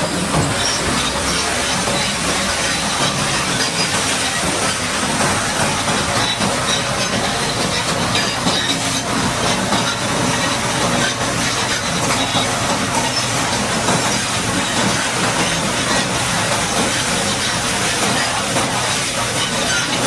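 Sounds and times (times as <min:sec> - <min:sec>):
high-pressure water jet hissing: 0:00.0 - 0:20.0.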